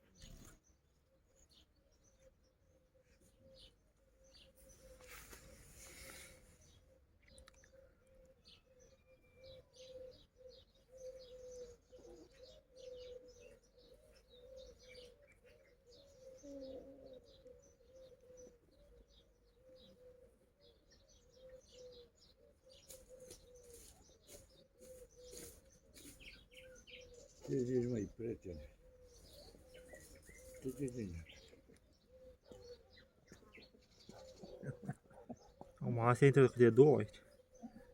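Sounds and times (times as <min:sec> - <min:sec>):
faint bird chirping: 0:00.0 - 0:37.9.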